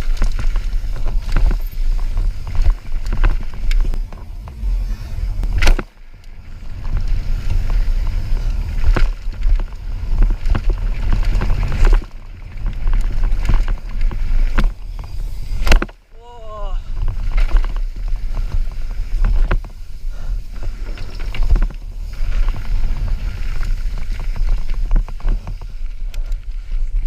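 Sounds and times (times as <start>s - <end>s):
bike knocking on bumps: 0.0s - 16.0s, 16.9s - 27.0s
bike tyres rattling on rough ground: 0.0s - 27.0s
wind rumbling on microphone: 0.0s - 27.0s.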